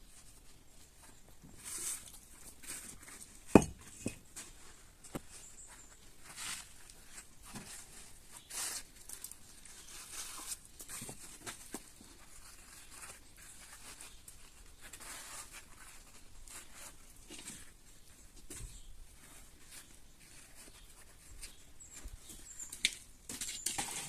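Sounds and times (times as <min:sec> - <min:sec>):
faint scraping and rustling: 0:00.0 - 0:24.0.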